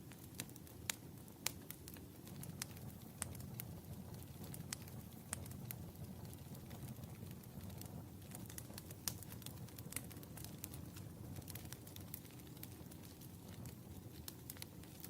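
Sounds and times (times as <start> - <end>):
burning logs crackling: 0.0 - 15.0
fire rumbling in fireplace: 0.0 - 15.0.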